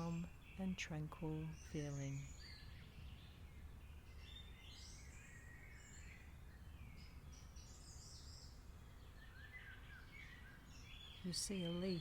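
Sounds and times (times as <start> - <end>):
birds calling and twittering: 0.0 - 12.0.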